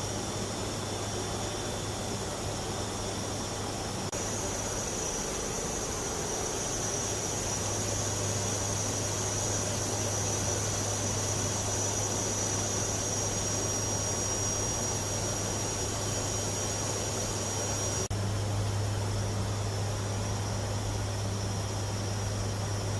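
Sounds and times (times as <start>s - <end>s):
propeller aircraft drone: 0.0s - 22.9s.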